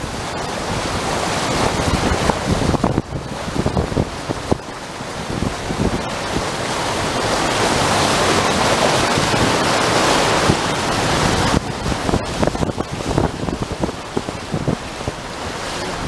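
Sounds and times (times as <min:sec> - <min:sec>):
strong wind gusting: 0:00.0 - 0:16.0
wind buffeting microphone: 0:00.0 - 0:16.0.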